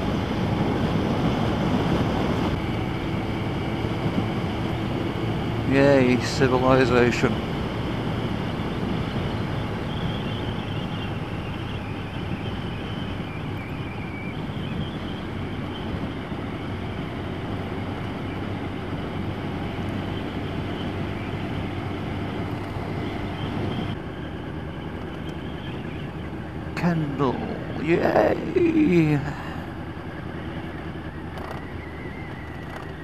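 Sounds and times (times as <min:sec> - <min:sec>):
motorcycle engine running: 0:00.0 - 0:33.0
wind and road rush: 0:00.0 - 0:33.0.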